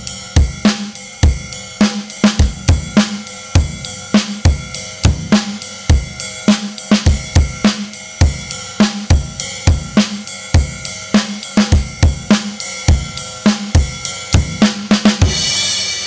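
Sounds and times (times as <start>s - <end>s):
crash cymbal ringing: 0.0s - 16.0s
drum kit groove: 0.0s - 16.0s.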